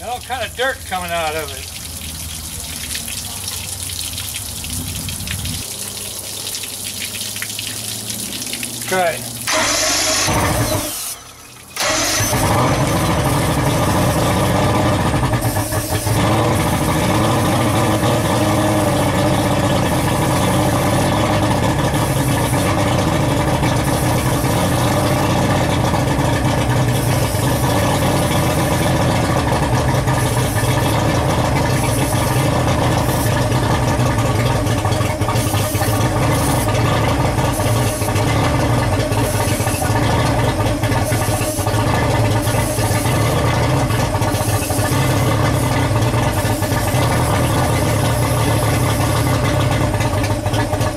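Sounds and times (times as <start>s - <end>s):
outboard motor running: 7.0s - 50.9s.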